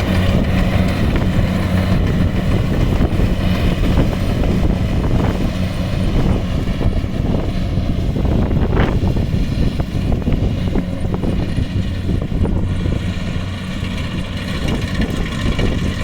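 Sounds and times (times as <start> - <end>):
harvester engine running: 0.0 - 16.0.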